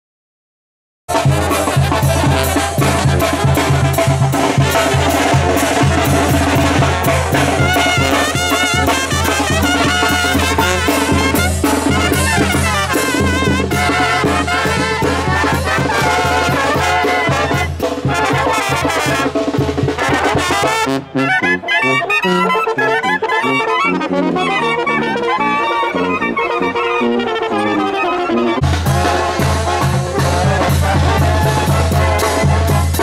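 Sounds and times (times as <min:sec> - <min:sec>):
trumpets: 0:01.1 - 0:33.0
tuba bass line: 0:01.1 - 0:33.0.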